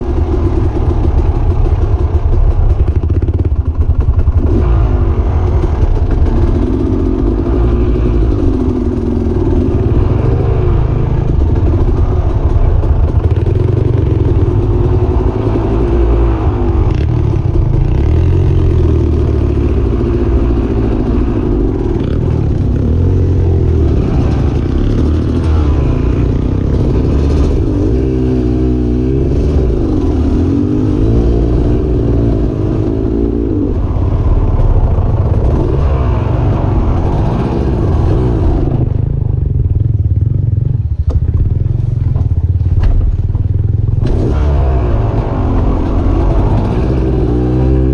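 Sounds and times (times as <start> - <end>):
off-road vehicle engine revving: 0.0 - 39.8, 40.8 - 47.9
clatter: 0.0 - 47.9.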